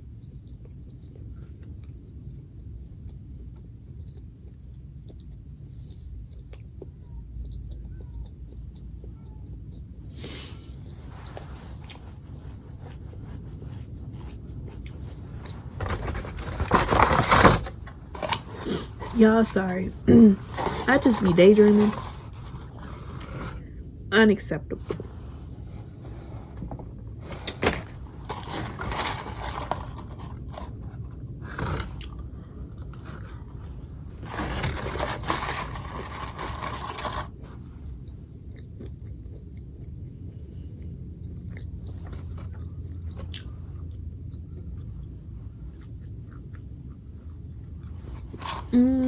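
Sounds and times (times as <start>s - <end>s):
person chewing food: 0.0s - 19.2s, 25.0s - 48.8s.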